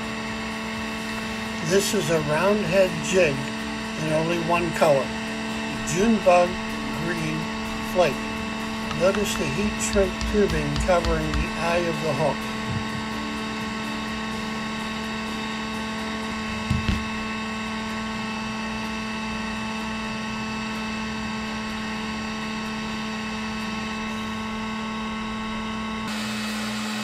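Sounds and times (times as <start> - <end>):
heat gun fan hum: 0.0 - 27.0.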